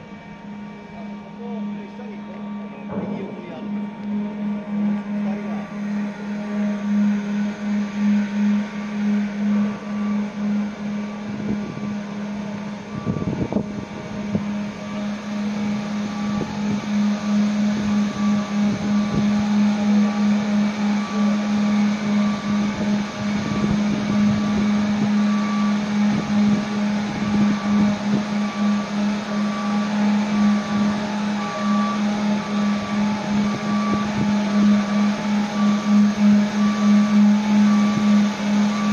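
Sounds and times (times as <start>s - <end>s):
low machinery hum: 0.0s - 38.9s.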